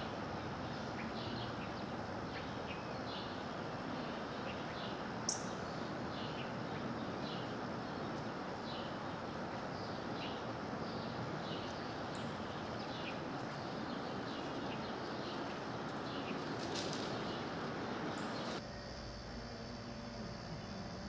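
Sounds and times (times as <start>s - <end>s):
small birds chirping: 0.0s - 18.6s
steady background hiss: 0.0s - 21.0s.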